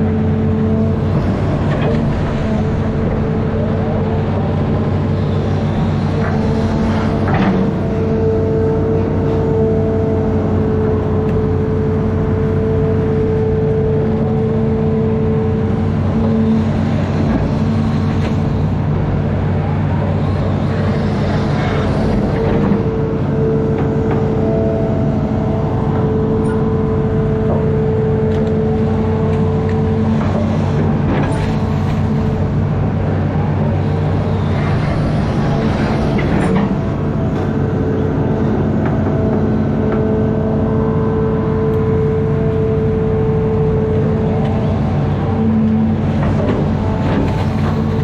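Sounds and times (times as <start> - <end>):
diesel engine running under load: 0.0 - 48.0
hydraulic whine: 0.0 - 48.0.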